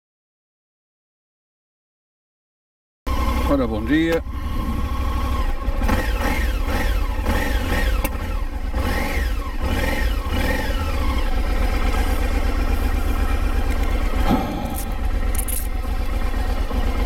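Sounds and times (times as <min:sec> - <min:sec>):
motorcycle engine revving and idling: 0:03.1 - 0:17.0.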